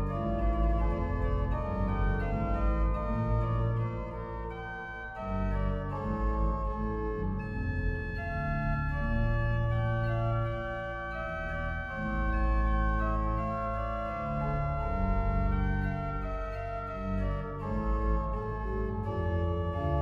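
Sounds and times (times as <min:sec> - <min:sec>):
deep organ bass notes: 0:00.0 - 0:20.0
pipe organ playing: 0:00.0 - 0:20.0.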